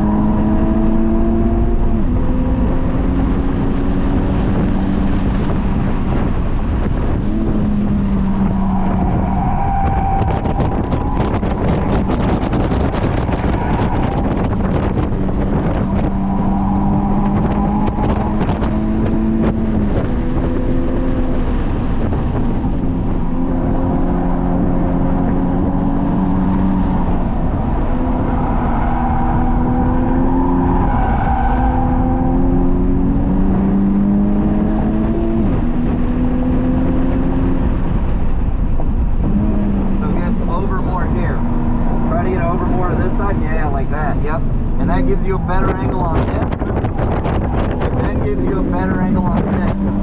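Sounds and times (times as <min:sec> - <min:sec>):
car engine under load: 0:00.0 - 0:50.0
road noise: 0:00.0 - 0:50.0
wind noise: 0:00.0 - 0:50.0.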